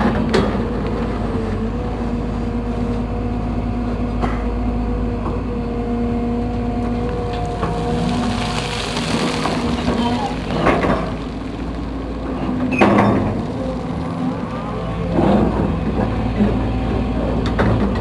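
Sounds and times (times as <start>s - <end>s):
excavator engine humming: 0.0s - 18.0s.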